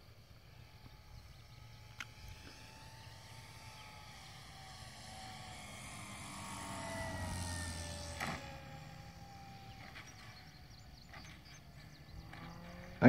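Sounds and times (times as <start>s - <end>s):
model plane motor: 0.0s - 13.0s.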